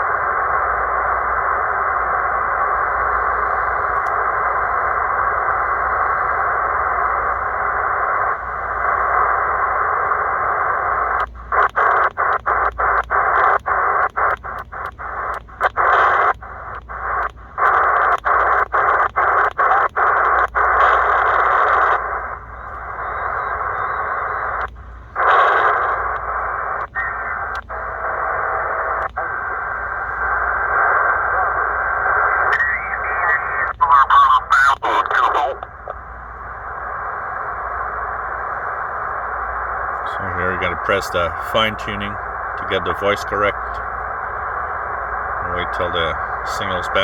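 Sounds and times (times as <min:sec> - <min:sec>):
faint steady radio tones: 0:00.0 - 0:47.0
radio band noise hiss: 0:00.0 - 0:47.0.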